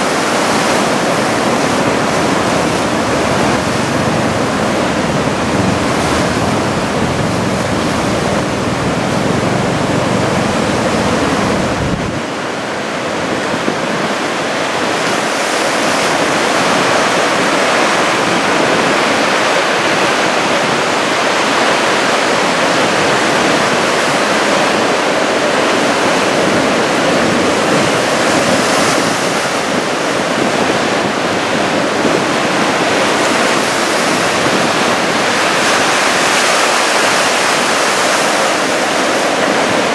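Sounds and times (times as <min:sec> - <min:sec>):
heavy surf breaking: 0:00.0 - 0:39.9.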